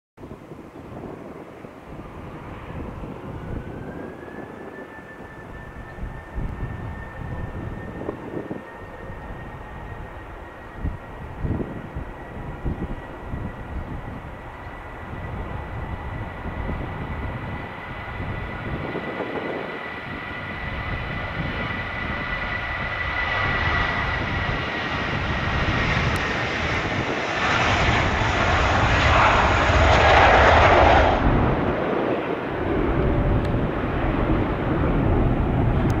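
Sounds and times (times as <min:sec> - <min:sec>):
jet engines at takeoff: 0:00.2 - 0:36.0.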